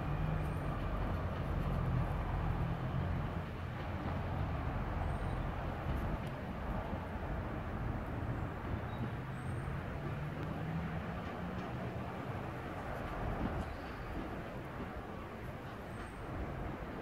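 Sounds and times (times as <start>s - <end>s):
diesel train engine hum: 0.0s - 17.0s.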